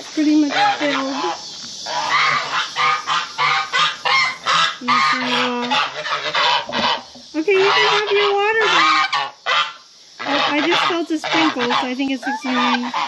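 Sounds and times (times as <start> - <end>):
geese honking: 0.3 - 13.0.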